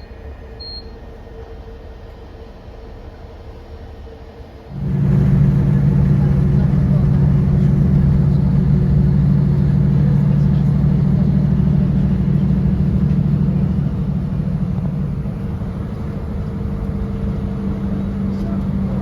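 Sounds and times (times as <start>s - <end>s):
train diesel engine droning: 0.0s - 19.0s.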